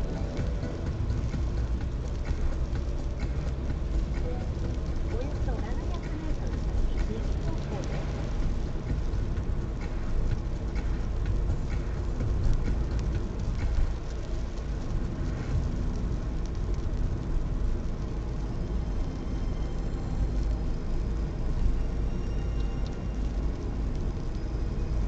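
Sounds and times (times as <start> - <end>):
tyre and engine rumble: 0.0 - 25.0.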